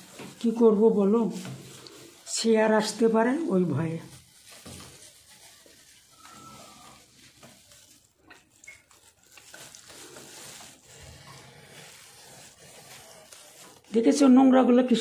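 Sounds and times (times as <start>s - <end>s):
cloth rubbing rubber gasket: 0.0s - 14.3s.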